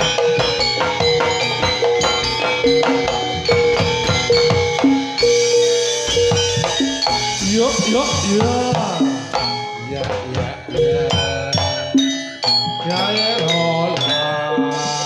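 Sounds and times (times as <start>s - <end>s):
sharp drum strokes: 0.0s - 13.0s
held steady chord: 0.0s - 13.8s
metallophone notes ringing: 0.0s - 15.0s.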